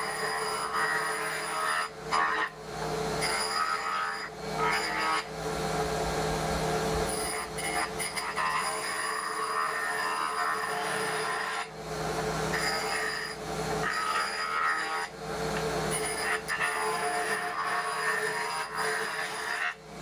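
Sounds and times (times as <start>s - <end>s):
wood cutting noise: 0.0s - 20.0s.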